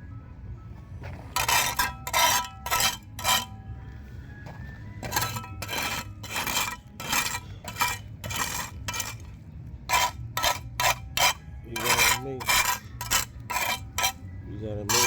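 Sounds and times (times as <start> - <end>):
rhythmic scraping strokes: 1.0 - 15.0.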